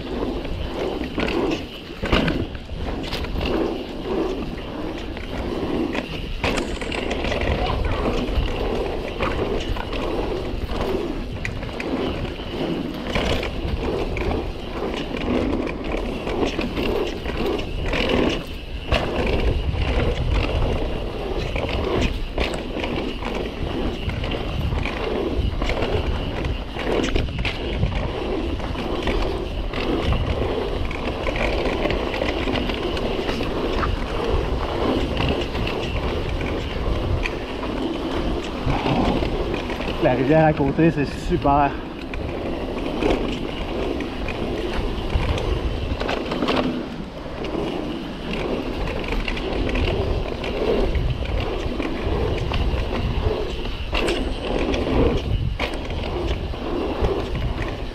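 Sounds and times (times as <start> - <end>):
bike tyres rolling on dirt: 0.0 - 57.9.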